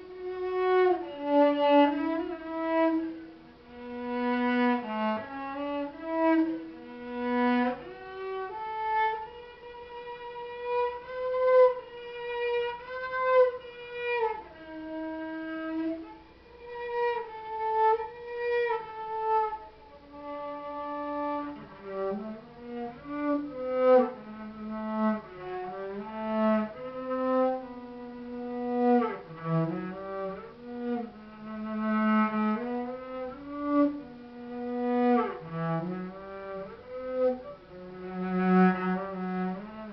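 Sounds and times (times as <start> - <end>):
solo cello melody: 0.0 - 39.9.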